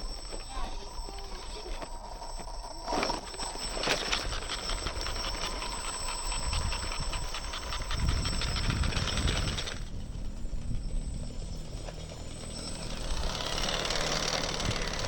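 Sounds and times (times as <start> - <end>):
toy truck motor whine: 0.0 - 15.0.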